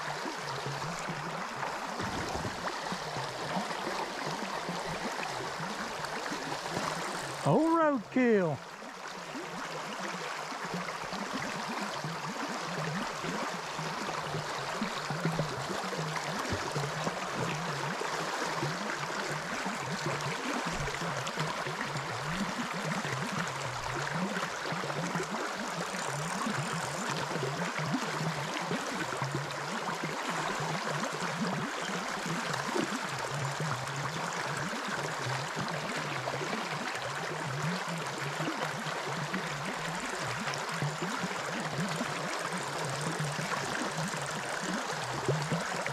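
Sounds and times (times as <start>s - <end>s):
creek water rushing and gurgling: 0.0s - 45.9s.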